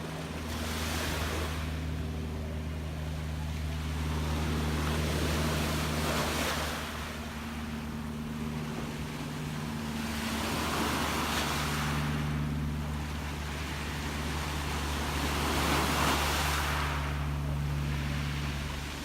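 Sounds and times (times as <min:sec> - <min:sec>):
gentle sea waves washing ashore: 0:00.0 - 0:19.0
steady low hum: 0:00.0 - 0:19.0.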